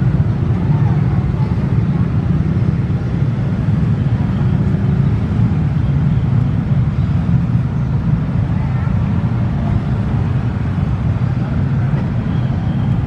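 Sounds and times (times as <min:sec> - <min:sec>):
locomotive engine low rumble: 0:00.0 - 0:13.0.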